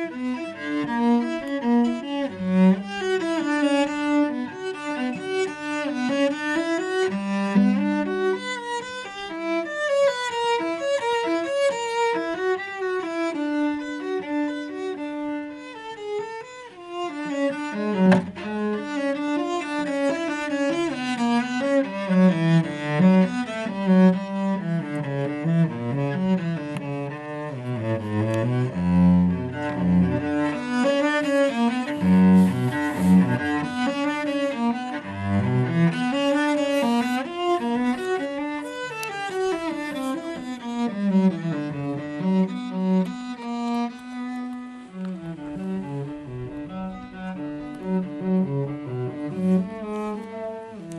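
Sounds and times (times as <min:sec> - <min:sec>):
cello playing a melody: 0:00.0 - 0:50.9.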